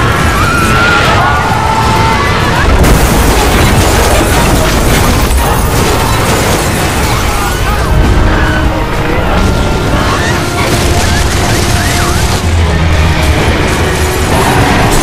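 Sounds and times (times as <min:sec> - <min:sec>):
buildings collapsing rumble: 0:00.0 - 0:15.0.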